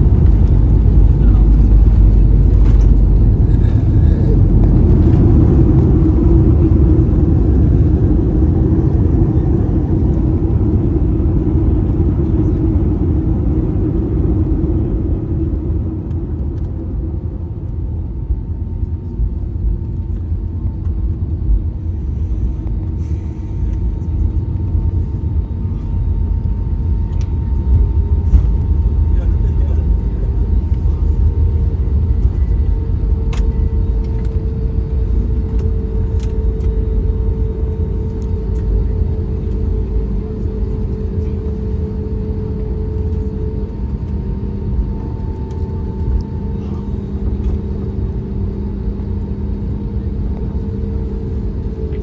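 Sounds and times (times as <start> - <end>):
aircraft cabin rumble: 0.0 - 52.0.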